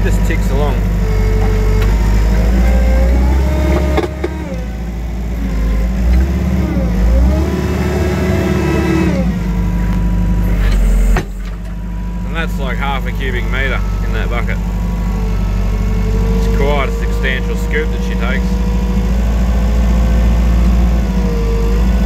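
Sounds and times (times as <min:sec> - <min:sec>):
skid steer engine hum with whine: 0:00.0 - 0:22.0.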